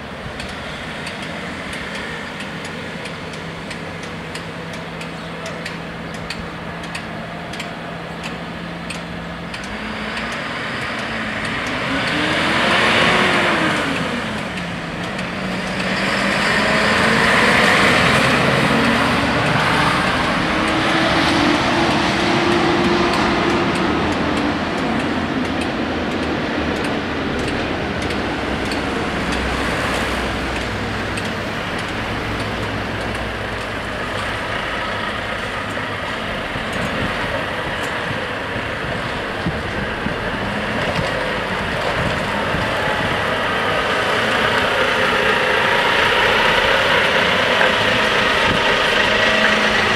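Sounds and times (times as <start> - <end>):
car engines: 0.0 - 49.9
lorry diesel engine: 0.0 - 49.9.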